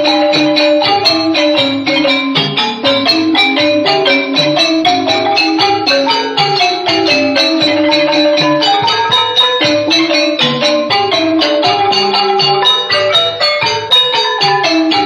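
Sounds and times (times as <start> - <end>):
xylophones and gongs ensemble: 0.0 - 15.0.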